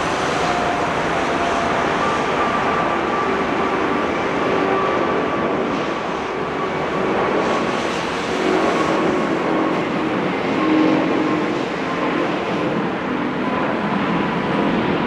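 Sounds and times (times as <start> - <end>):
loud rushing jet noise: 0.0 - 15.0.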